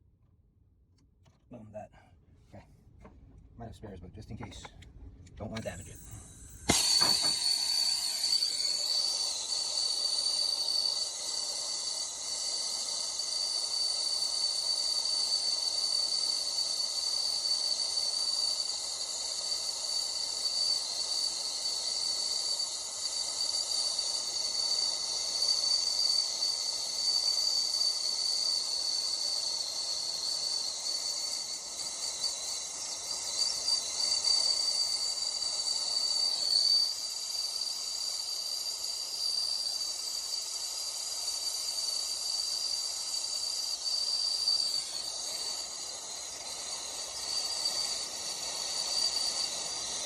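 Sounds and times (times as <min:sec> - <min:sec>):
torch flame hissing and whistling: 0:05.6 - 0:50.0.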